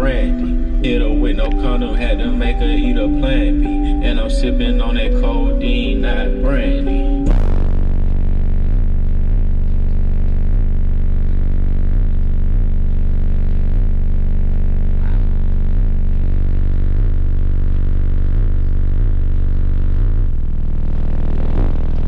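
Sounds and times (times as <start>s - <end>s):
bass-heavy music from subwoofers: 0.0s - 22.0s.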